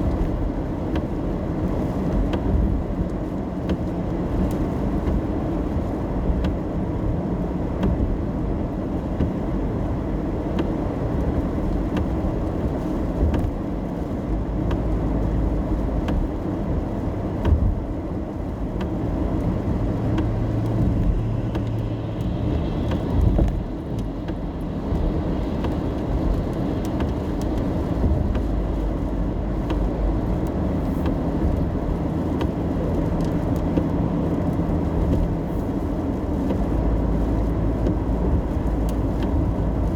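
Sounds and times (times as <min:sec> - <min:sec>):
car engine hum: 0:00.0 - 0:39.9
rain ticks: 0:00.0 - 0:39.9
tyre and road noise: 0:00.0 - 0:39.9.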